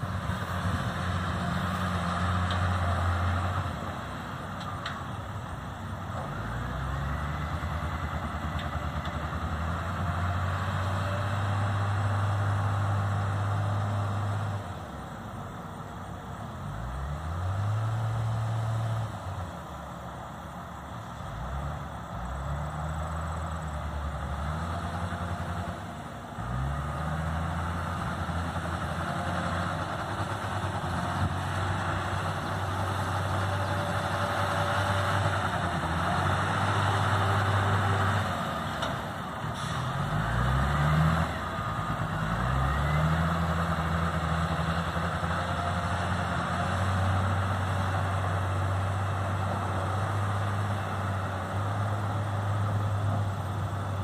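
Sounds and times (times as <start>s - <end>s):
diesel engine running and revving: 0.0s - 54.0s.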